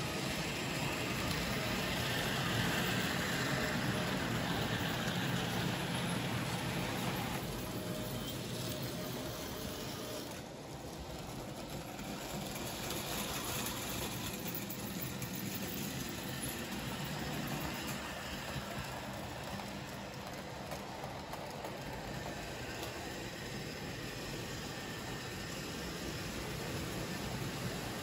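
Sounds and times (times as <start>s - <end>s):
model trains running on track: 0.0s - 28.0s.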